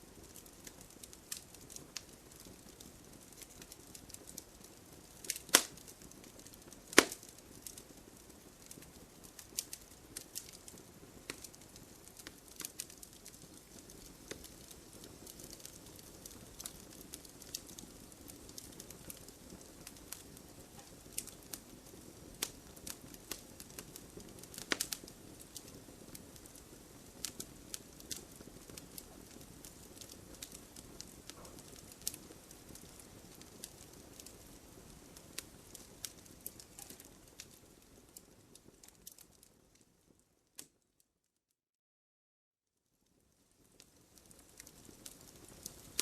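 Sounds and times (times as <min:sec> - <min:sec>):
hiss of flames: 0:00.0 - 0:39.2, 0:43.6 - 0:46.0
wood fire crackling and popping: 0:00.0 - 0:40.8, 0:43.1 - 0:46.0.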